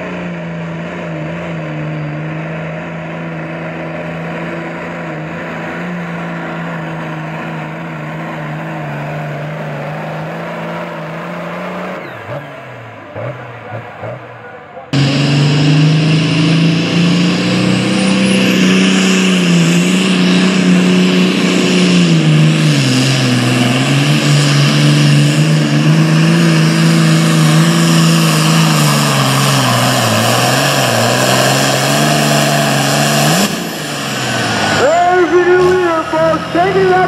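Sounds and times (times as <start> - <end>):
tractor diesel engine straining: 0.0 - 37.0.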